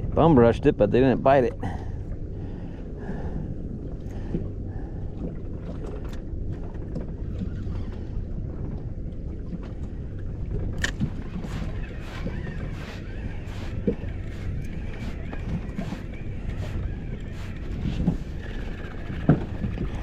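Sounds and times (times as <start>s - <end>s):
fishing boat engine rumble: 0.0s - 20.0s.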